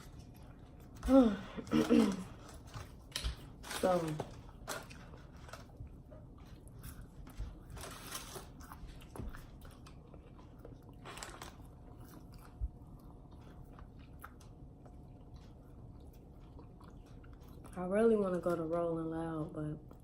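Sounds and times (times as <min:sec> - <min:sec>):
chewing and biting food: 0:00.0 - 0:19.0.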